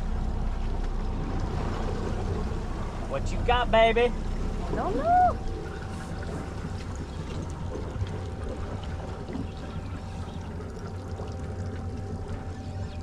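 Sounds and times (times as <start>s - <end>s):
outboard motor running: 0.0s - 13.0s
water washing against hull: 0.0s - 13.0s.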